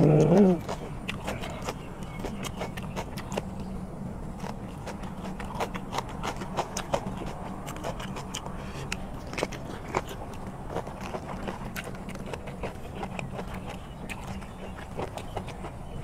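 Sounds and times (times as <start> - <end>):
steady low hum: 0.0 - 16.0
wet chewing and lip-smacking: 0.0 - 16.0.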